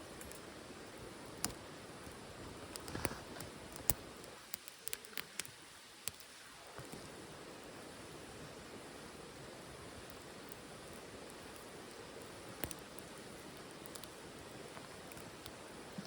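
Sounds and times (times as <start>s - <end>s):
wood fire crackling in stove: 0.0s - 16.0s.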